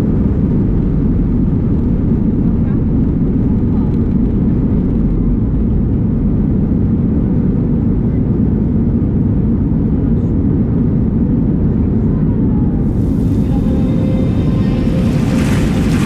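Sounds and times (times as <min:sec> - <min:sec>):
airliner cabin engine noise: 0:00.0 - 0:16.0.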